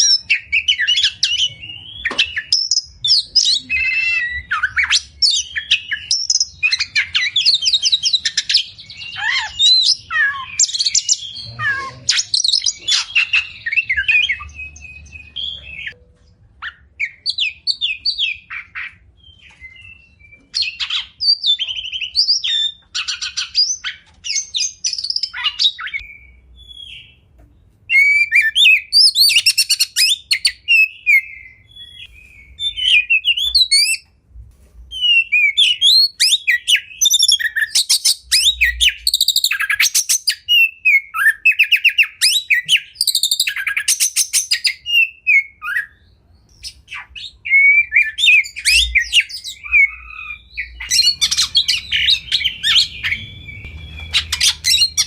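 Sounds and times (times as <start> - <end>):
songbird singing whistles and trills: 0.0 - 27.2, 27.9 - 34.1, 34.9 - 55.0.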